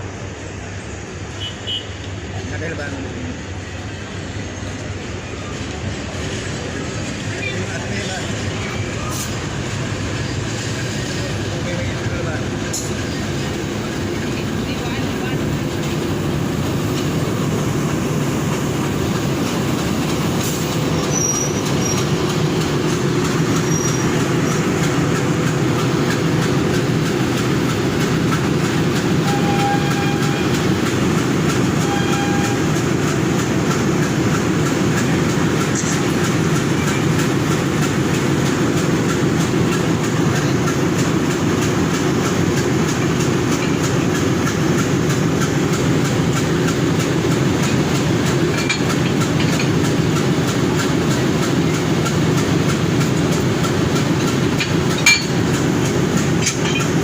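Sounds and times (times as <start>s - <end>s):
train wheels and engine rumble: 0.0s - 57.0s.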